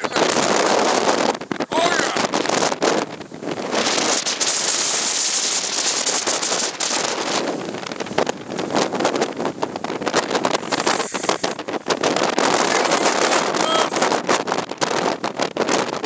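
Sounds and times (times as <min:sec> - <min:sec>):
wind blasting microphone: 0:00.0 - 0:16.0.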